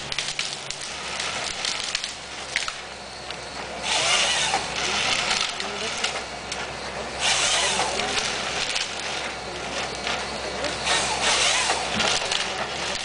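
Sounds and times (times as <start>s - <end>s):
excavator diesel engine hum: 0.0s - 13.0s
hissing scraping surges: 0.2s - 13.0s.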